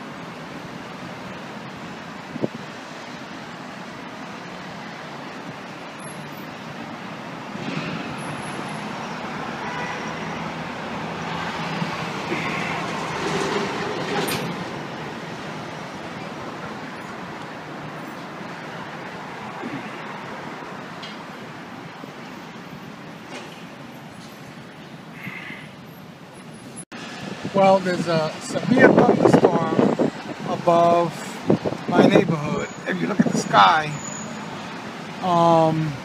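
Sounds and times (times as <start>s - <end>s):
traffic roar: 0.0s - 36.0s.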